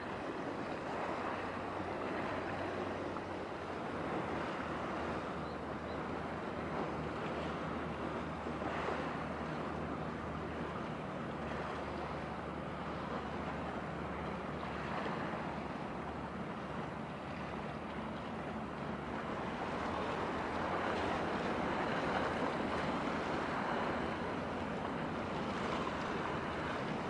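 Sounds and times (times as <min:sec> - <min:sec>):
ship engine droning: 0:00.0 - 0:27.0
water noise: 0:00.0 - 0:27.0.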